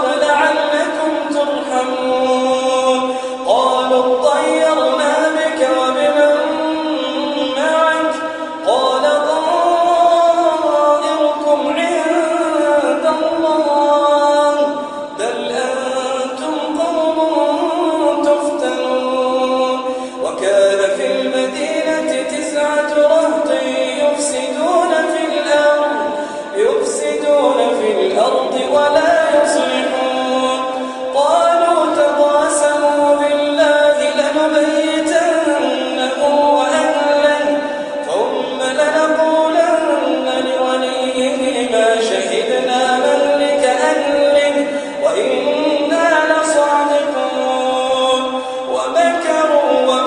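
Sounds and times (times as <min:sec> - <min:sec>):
man chanting melodically: 0:00.0 - 0:50.0.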